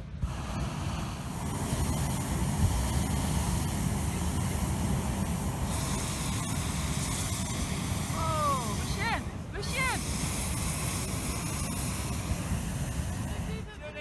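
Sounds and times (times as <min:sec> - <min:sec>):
propane burners firing: 0:00.0 - 0:14.0.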